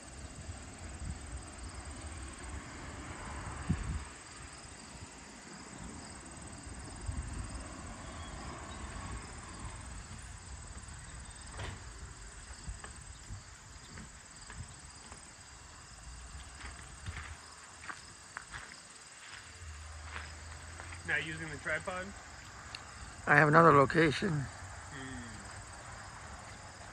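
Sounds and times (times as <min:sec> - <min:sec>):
crickets and insects chirping: 0:00.0 - 0:26.9.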